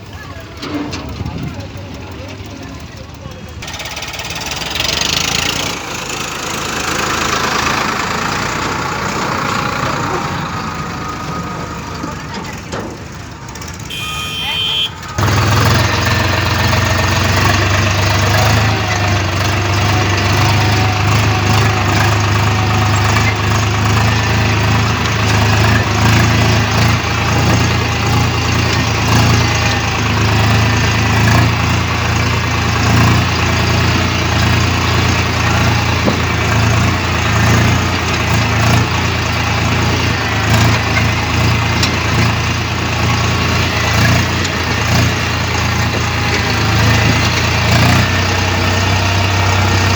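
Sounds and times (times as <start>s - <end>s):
tractor engine idling: 0.0s - 49.9s.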